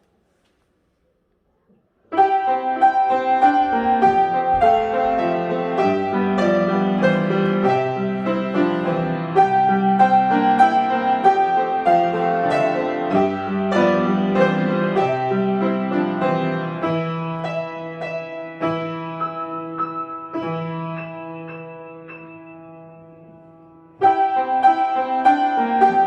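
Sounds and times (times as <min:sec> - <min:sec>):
piano piece: 0:02.0 - 0:26.0.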